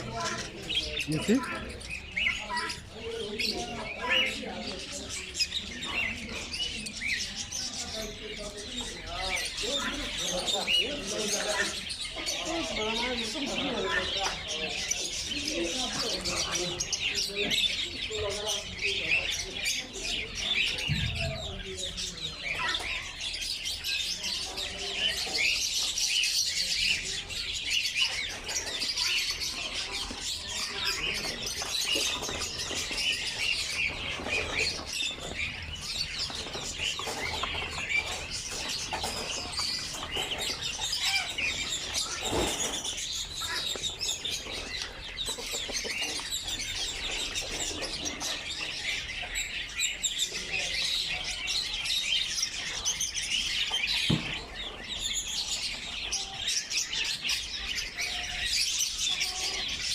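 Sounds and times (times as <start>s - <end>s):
caged birds chirping: 0.0s - 59.9s.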